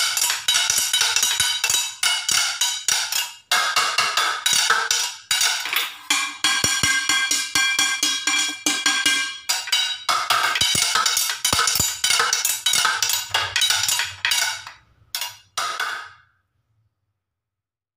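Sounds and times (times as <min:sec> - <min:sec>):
pots and plates beaten by hand: 0:00.0 - 0:16.2.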